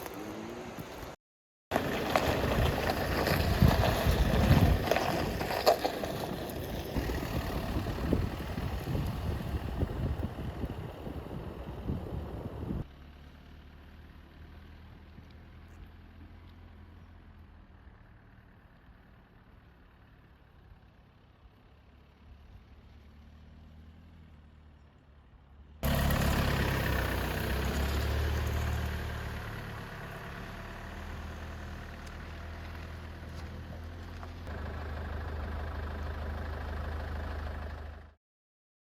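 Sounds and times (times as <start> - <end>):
vehicle engine running: 1.7 - 38.2.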